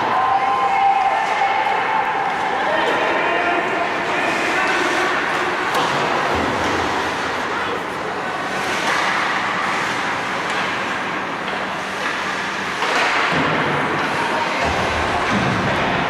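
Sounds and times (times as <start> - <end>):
ice rink crowd din: 0.0 - 16.0.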